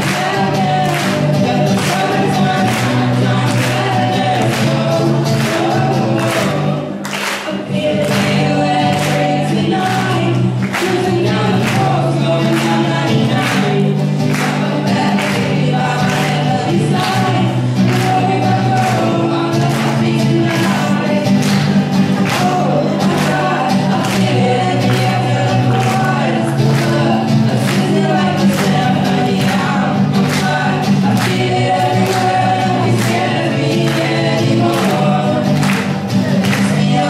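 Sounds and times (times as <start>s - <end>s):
acoustic guitar strumming: 0.0s - 37.0s
young voices singing together: 0.0s - 37.0s.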